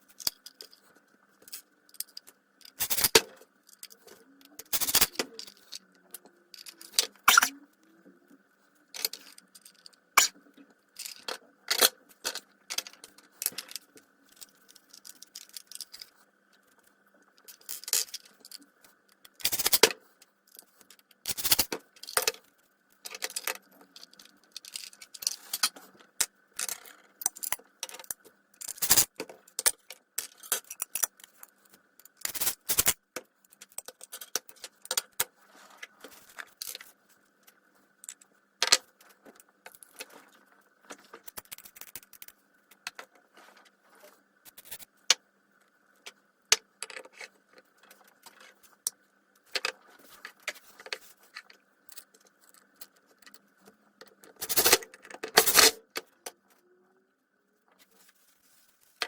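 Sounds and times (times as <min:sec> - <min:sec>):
small metal parts and tools rattling: 0:00.0 - 0:56.8.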